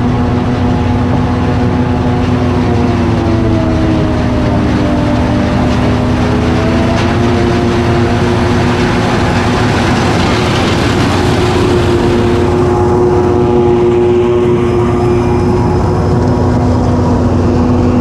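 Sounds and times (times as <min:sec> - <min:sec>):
heavy machinery engine humming: 0:00.0 - 0:18.0.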